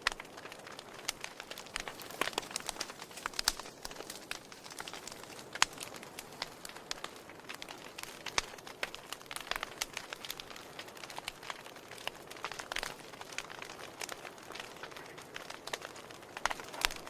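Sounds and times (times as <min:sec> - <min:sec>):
faint steady hiss: 0:00.0 - 0:17.0
fireplace fire crackling: 0:00.0 - 0:17.0.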